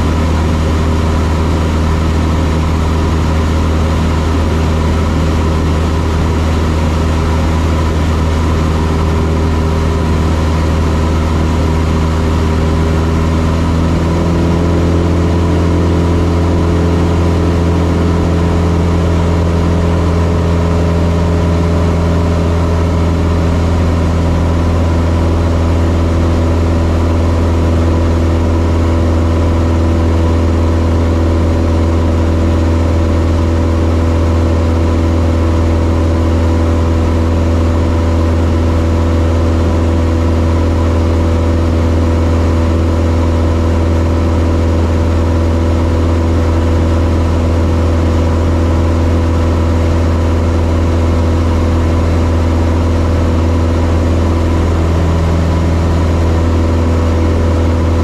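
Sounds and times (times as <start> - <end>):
airplane engine droning in cockpit: 0.0 - 58.0.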